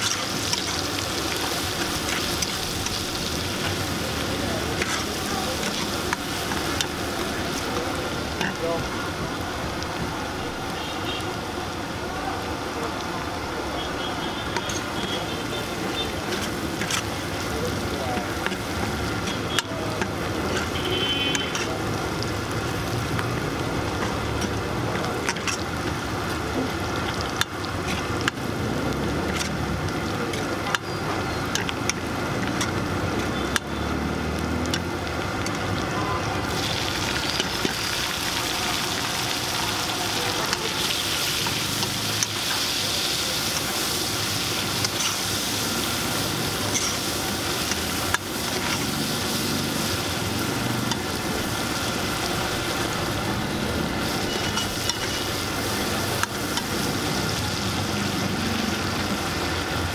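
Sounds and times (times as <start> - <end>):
shallots and garlic sizzling in oil: 0.0 - 59.9.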